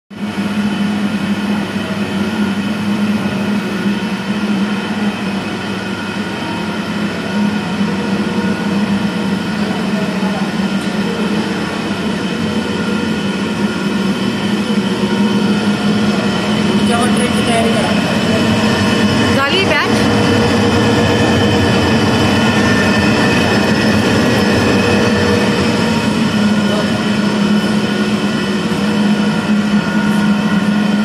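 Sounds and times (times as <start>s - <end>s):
factory machinery motor hum: 0.2s - 31.0s
high machine whines: 0.2s - 31.0s
noisy background: 0.2s - 31.0s.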